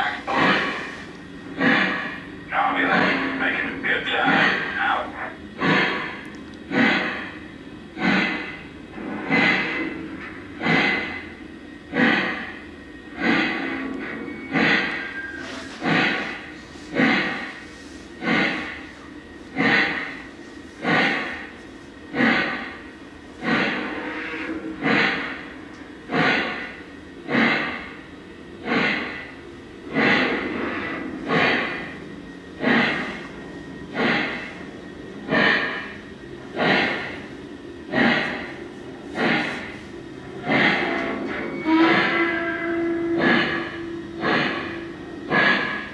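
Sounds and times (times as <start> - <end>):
model steam locomotive chuffs: 0.0 - 45.9.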